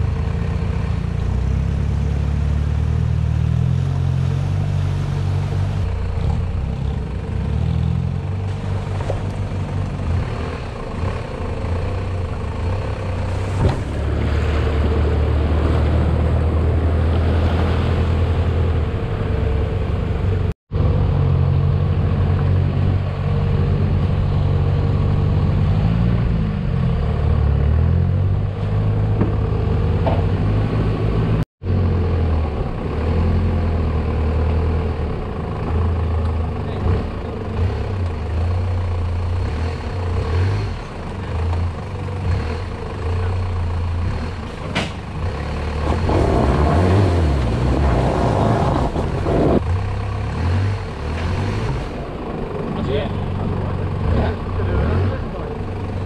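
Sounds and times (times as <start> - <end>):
vehicle engine at low revs: 0.0 - 56.0.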